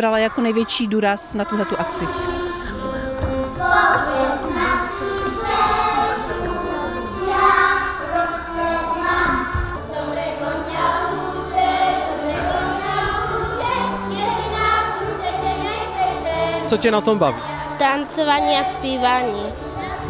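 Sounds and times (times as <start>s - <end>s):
children singing: 0.0s - 20.0s.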